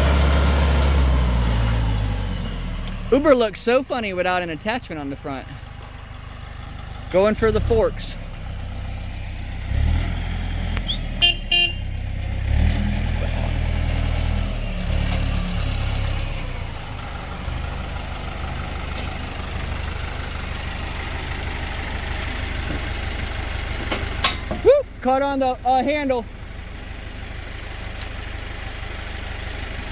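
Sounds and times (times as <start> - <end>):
tractor engine revving: 0.0 - 29.9.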